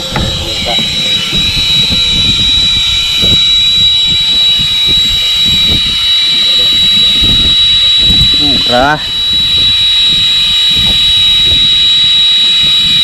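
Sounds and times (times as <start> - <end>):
boat engine whining: 0.0 - 13.0
wind buffeting microphone: 0.0 - 13.0.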